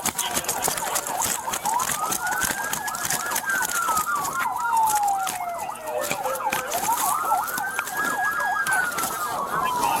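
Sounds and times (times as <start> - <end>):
clicks and rustles: 0.0 - 10.0
siren wailing: 0.0 - 10.0
siren yelping: 0.0 - 10.0.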